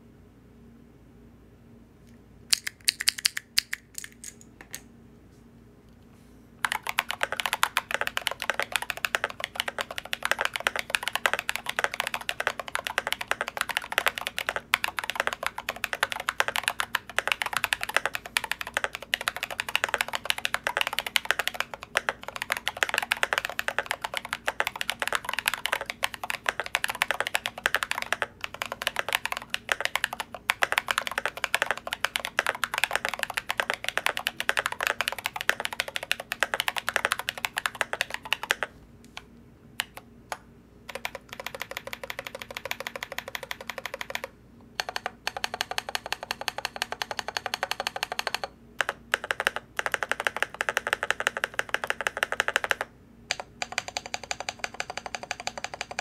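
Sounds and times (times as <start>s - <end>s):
mechanical keyboard typing: 2.5s - 4.4s, 6.6s - 38.7s, 39.8s - 40.0s, 40.9s - 56.0s.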